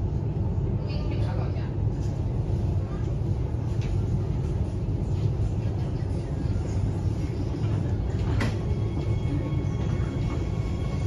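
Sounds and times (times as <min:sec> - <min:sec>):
metro car low rumble: 0:00.0 - 0:11.0.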